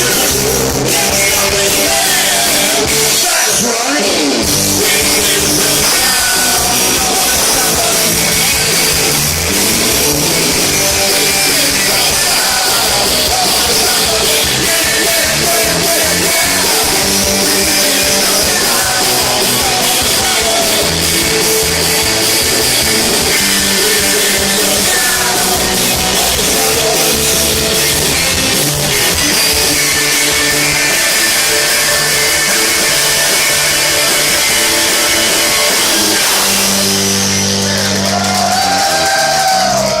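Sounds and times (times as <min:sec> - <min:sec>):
live punk rock band: 0:00.0 - 0:40.0
person singing: 0:00.0 - 0:40.0.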